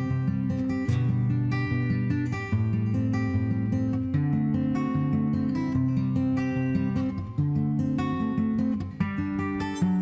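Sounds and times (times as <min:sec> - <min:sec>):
solo acoustic guitar: 0:00.0 - 0:10.0.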